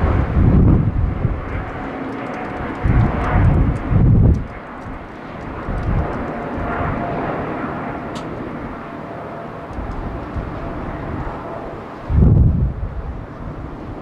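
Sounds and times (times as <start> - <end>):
jet engine roar with whine: 0.0 - 14.0.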